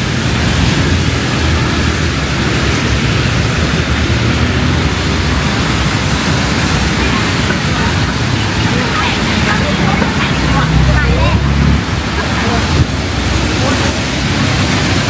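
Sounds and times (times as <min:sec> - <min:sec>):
city traffic rumble: 0:00.0 - 0:15.0
heavy rain: 0:00.0 - 0:15.0.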